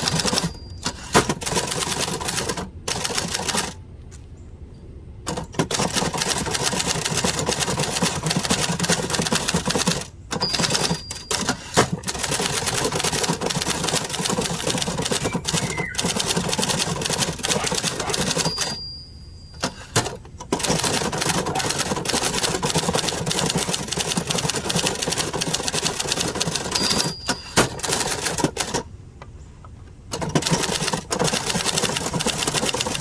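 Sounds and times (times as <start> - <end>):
manual typewriter typing: 0.0 - 3.8, 5.3 - 19.0, 19.6 - 28.9, 30.1 - 33.0.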